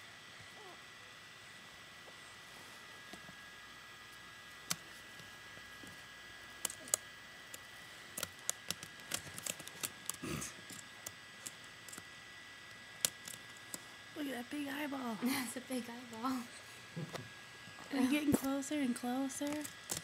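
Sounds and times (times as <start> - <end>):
electronic hiss with high whine: 0.0 - 20.0.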